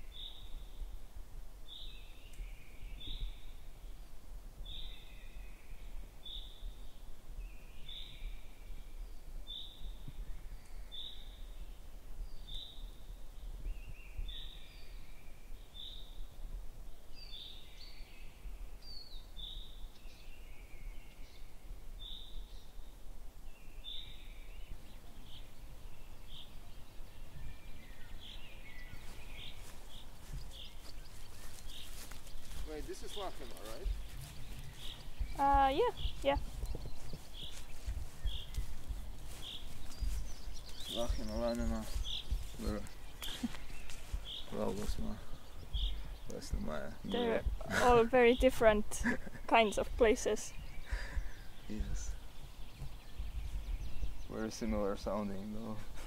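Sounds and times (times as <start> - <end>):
low rumble of wind: 0.0 - 56.0
wild birds singing: 0.0 - 56.0.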